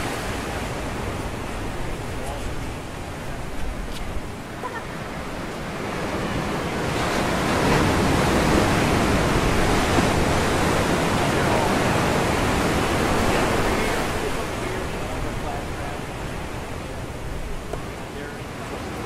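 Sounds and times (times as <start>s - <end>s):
ocean surf on rocks: 0.0s - 19.0s.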